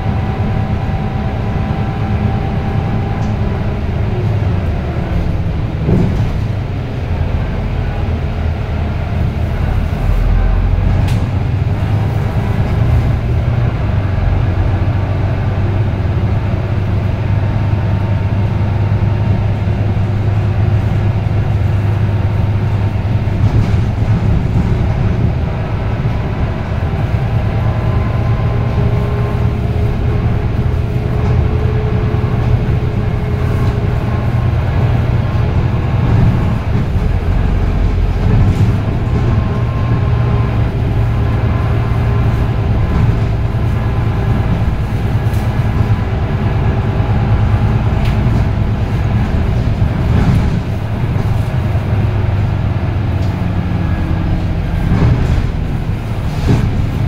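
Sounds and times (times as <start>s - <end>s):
bus engine rumble: 0.0s - 57.0s.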